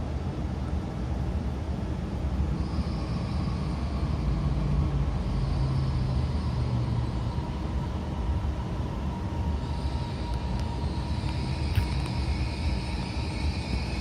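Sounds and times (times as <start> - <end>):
train rumbling at speed: 0.0 - 14.0
thin steady electrical tones: 1.3 - 14.0.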